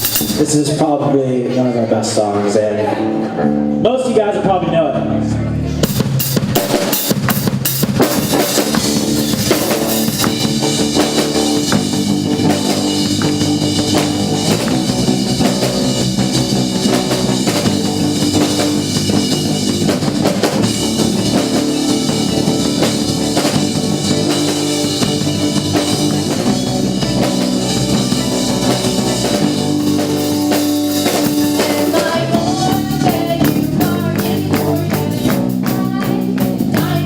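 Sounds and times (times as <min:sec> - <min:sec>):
live rock band playing: 0:00.0 - 0:01.8, 0:02.4 - 0:37.0.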